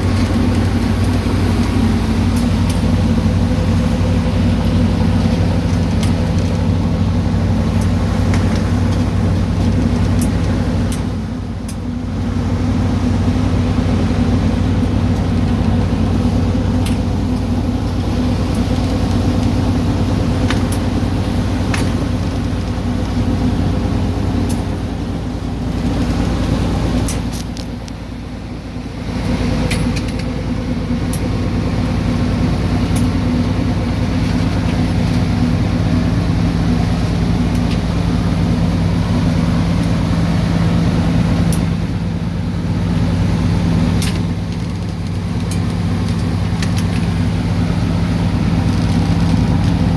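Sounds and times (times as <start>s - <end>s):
ship engine low drone: 0.0s - 49.9s.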